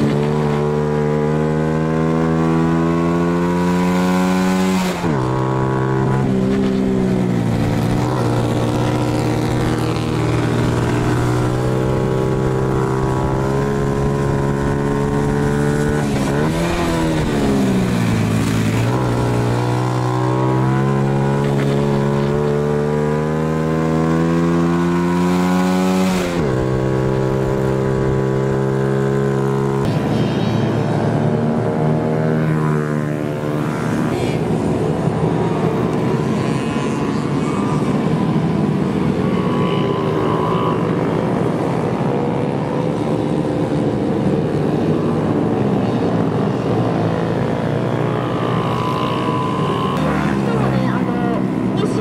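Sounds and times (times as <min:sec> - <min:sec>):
motorcycles passing by: 0:00.0 - 0:52.0
small motorcycle engine racing: 0:00.0 - 0:52.0.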